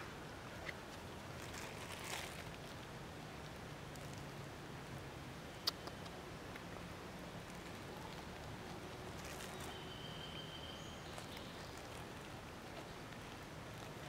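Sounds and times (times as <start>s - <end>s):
faint clicks and rustles: 0.0s - 4.5s, 5.6s - 10.0s, 10.9s - 14.0s.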